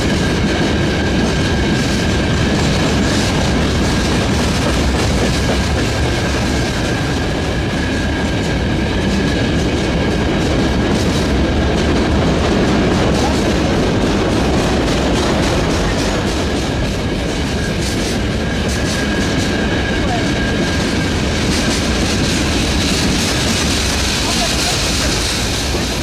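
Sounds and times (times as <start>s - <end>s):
freight wagons rolling on rails: 0.0s - 26.0s
wheels clacking over rail joints: 0.0s - 26.0s.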